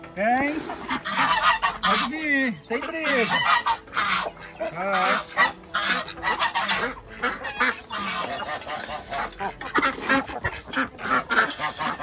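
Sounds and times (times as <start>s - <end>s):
ducks calling: 0.0s - 12.0s
geese honking: 0.4s - 12.0s.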